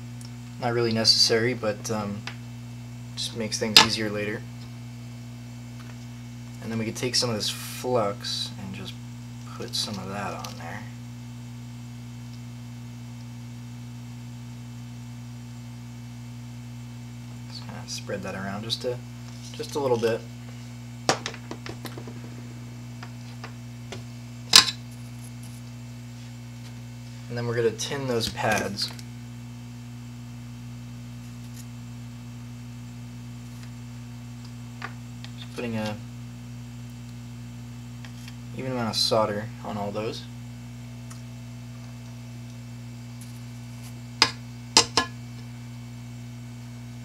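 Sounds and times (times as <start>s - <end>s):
electrical mains hum: 0.0s - 47.0s.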